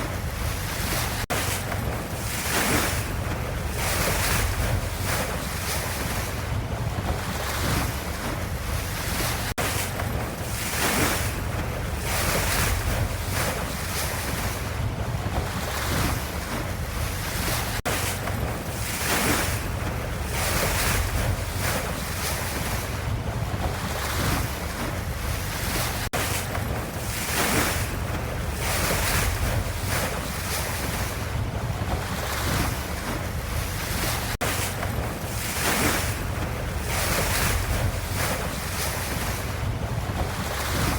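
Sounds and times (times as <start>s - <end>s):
ocean waves: 0.0s - 40.9s.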